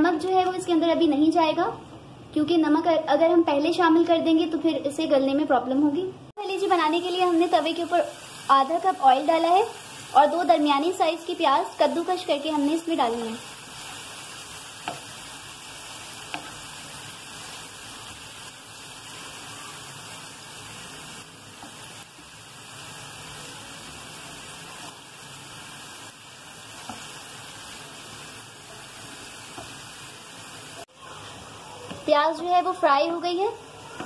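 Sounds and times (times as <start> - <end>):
onions sizzling in oil: 6.4 - 34.0.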